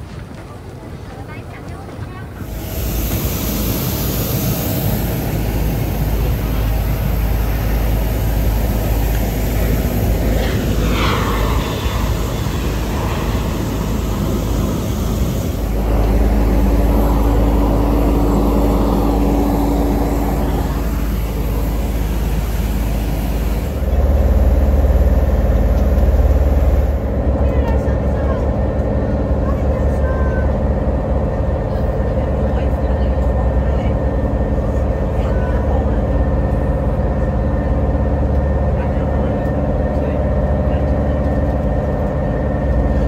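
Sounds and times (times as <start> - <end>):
airliner cabin noise: 0.0 - 43.0
bus rumbling: 0.0 - 43.0
steady outdoor hum: 0.0 - 43.0
falling whine: 2.4 - 43.0.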